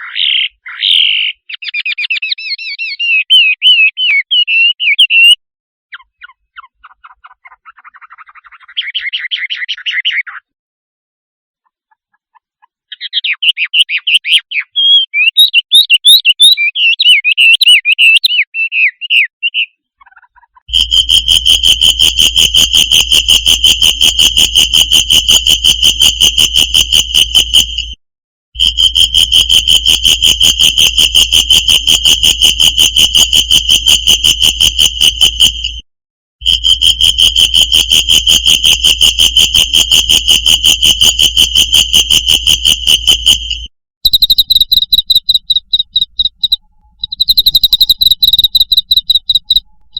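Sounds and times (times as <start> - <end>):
bird chattering song: 0.0 - 10.5, 11.6 - 27.9, 36.4 - 49.9.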